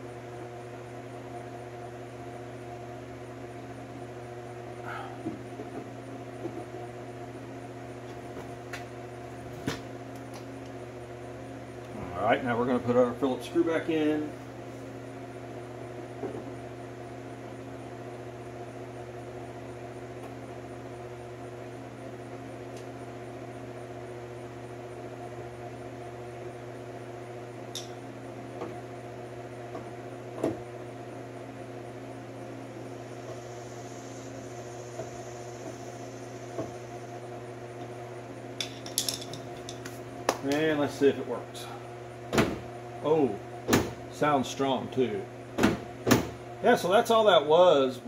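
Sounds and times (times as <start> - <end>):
electric fan humming: 0.0 - 48.0.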